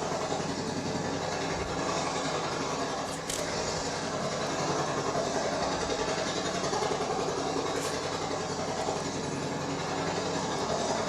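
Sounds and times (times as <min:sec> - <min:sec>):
helicopter engine and rotor noise: 0:00.0 - 0:11.0.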